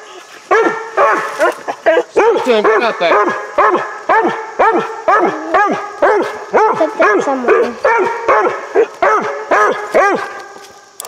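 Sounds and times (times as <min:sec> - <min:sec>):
dog barking: 0:00.5 - 0:10.7.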